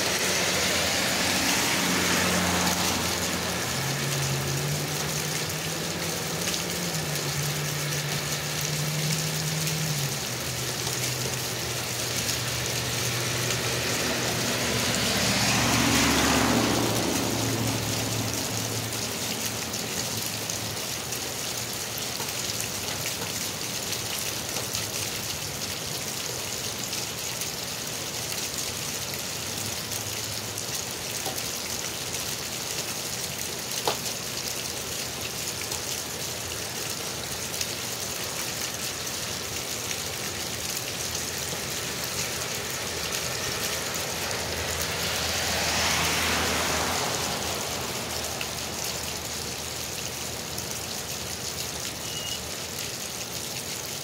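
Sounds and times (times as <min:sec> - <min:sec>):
rain hissing on pavement: 0:00.0 - 0:54.0
vehicle passing on wet road: 0:00.0 - 0:54.0
water gushing and splashing: 0:00.0 - 0:54.0.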